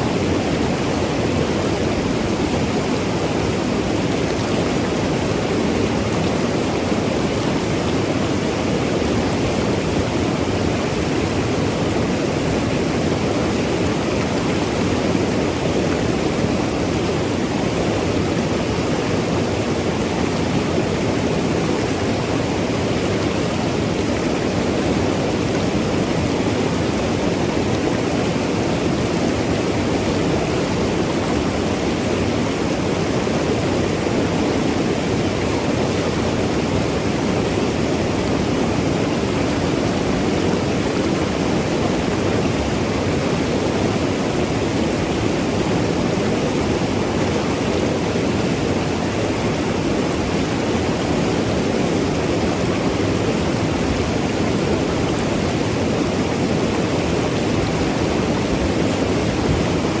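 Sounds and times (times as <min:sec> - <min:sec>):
river rushing over rocks: 0:00.0 - 1:00.0.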